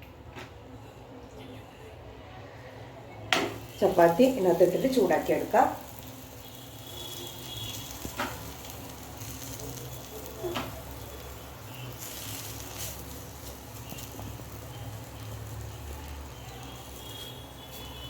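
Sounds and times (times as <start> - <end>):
faint sizzle on a pan: 3.3 - 18.0.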